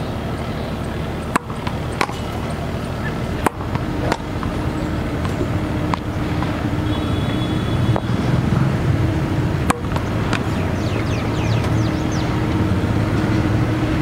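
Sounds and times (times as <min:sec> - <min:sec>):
low rumble: 0:00.0 - 0:14.0
balls struck by bat and racket: 0:00.7 - 0:14.0.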